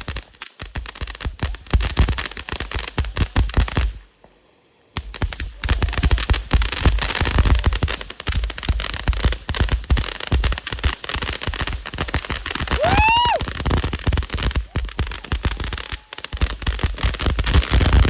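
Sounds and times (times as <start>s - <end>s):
fireworks popping and crackling: 0.0s - 18.0s.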